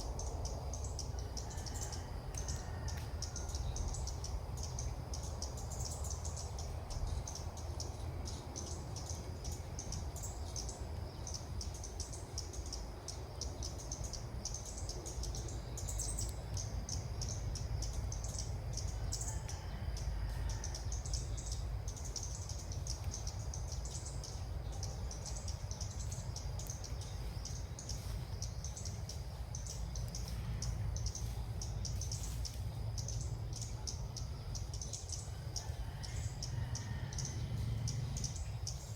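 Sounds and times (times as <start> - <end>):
birds chirping rapidly: 0.0 - 38.9
low rumble of wind: 0.0 - 38.9.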